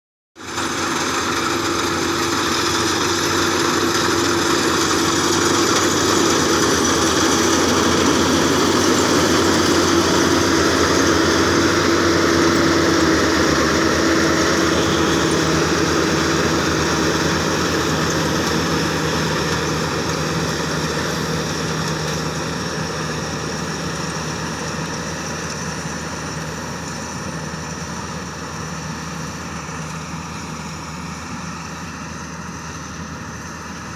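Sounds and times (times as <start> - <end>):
combine harvester engine and threshing: 0.4 - 33.9.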